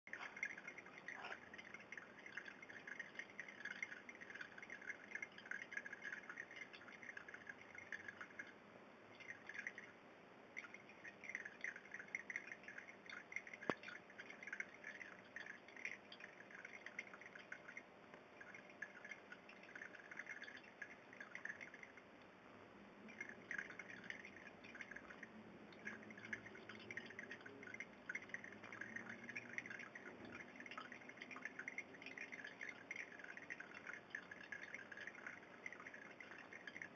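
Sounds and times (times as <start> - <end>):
aquarium water bubbling: 0.0 - 36.9.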